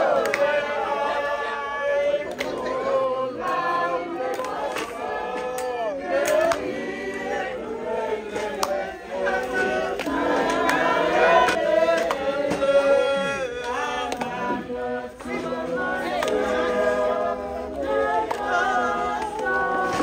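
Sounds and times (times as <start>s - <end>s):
choir singing in harmony: 0.0s - 20.0s.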